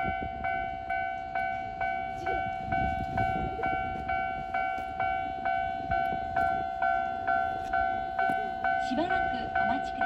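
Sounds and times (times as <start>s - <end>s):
level-crossing warning bell ringing: 0.0s - 10.0s
low rumble of train: 0.0s - 10.0s.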